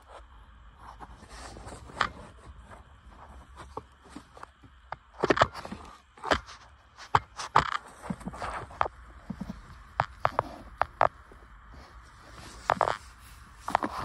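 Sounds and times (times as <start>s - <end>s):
scraping rustles: 0.0s - 14.0s.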